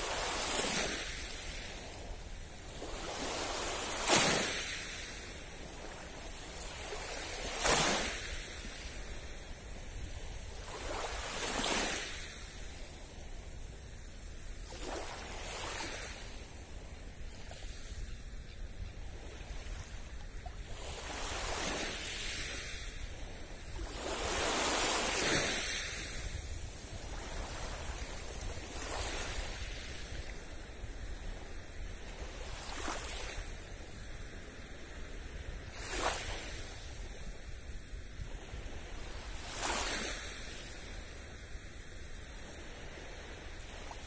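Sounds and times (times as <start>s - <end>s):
small waves lapping on beach: 0.0s - 44.0s.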